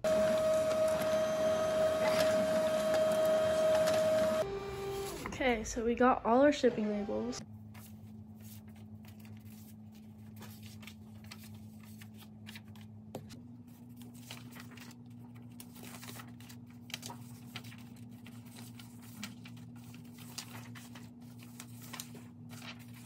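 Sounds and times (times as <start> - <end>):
paper rustling and shuffling: 0.1 - 4.4, 7.5 - 23.0.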